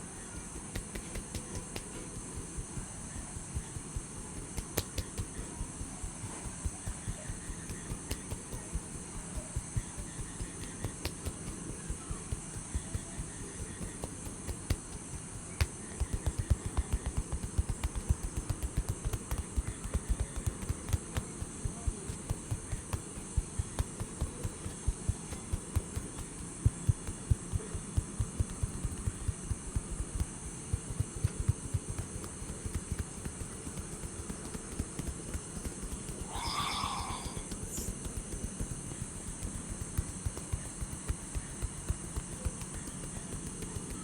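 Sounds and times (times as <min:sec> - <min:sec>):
hand taps and slaps of massage: 0:00.0 - 0:44.0
steady high hiss: 0:00.0 - 0:44.0.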